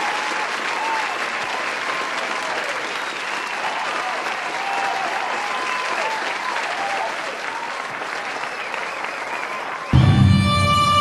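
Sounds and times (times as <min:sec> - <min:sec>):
audience clapping: 0:00.0 - 0:11.0.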